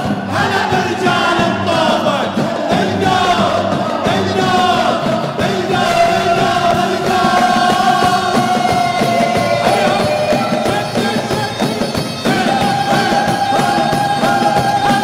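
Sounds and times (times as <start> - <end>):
man singing lead: 0.0 - 15.0
mixed choir singing: 0.0 - 15.0
percussion beat: 0.0 - 15.0.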